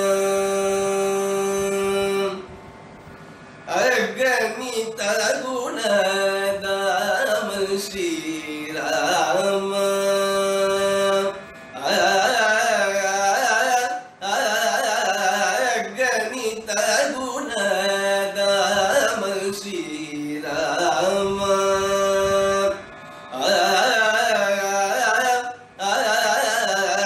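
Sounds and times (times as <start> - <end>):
steady drone: 0.0 - 27.0
man singing wordless phrases: 3.7 - 22.8, 23.4 - 27.0.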